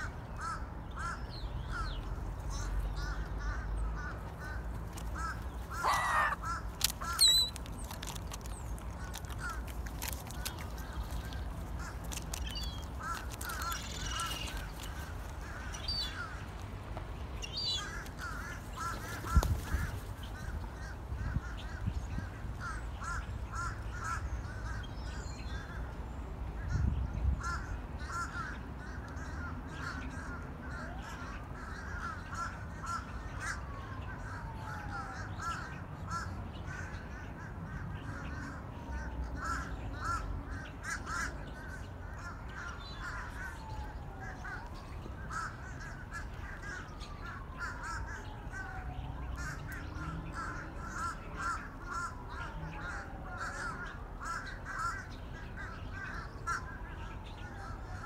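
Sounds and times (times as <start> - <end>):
gulls squawking: 2.5 - 16.5, 17.4 - 24.8, 29.2 - 58.0.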